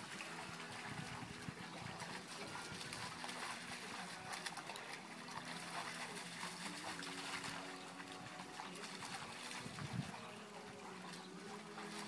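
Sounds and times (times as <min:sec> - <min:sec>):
dogs splashing through water: 0:00.0 - 0:12.0.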